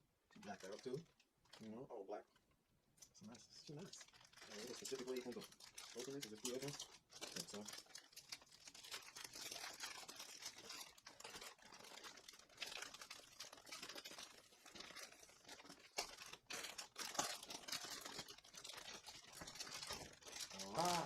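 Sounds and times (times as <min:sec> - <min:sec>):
packaging crinkling and rustling: 0:00.4 - 0:02.5, 0:03.3 - 0:21.0
sharp clicks and crackles: 0:03.8 - 0:21.0.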